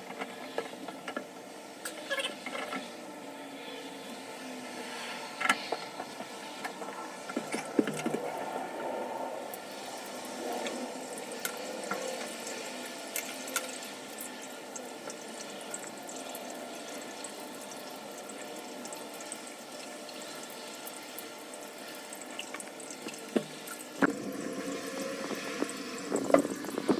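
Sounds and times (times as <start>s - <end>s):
shower water running: 4.0s - 26.9s.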